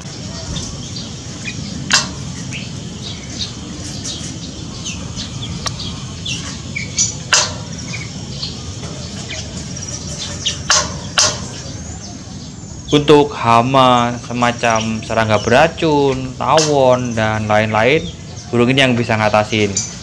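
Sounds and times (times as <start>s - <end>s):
birds chirping: 0.0s - 20.0s
low background hum: 0.0s - 20.0s.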